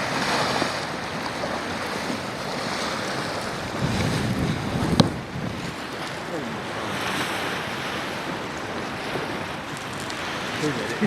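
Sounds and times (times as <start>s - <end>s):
waves washing onto beach: 0.0s - 11.0s
wind buffeting microphone: 0.0s - 11.0s.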